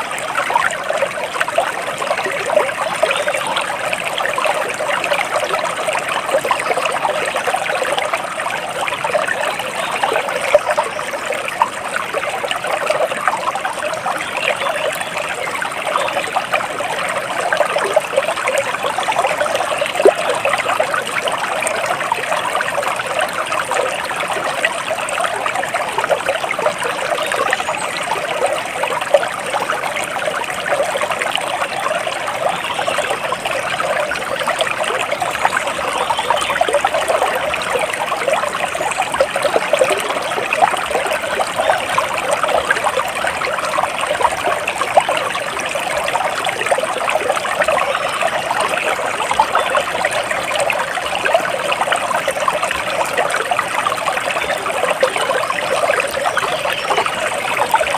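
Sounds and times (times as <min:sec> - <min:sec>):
stream water babbling over stones: 0:00.0 - 0:57.9.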